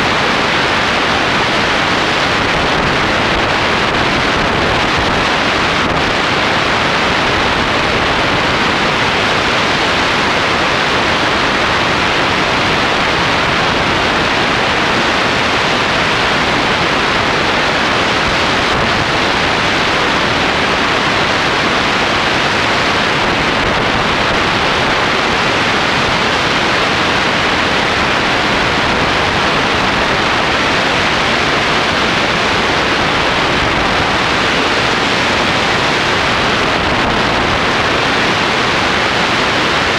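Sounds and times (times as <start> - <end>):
wind across microphone: 0.0 - 39.9.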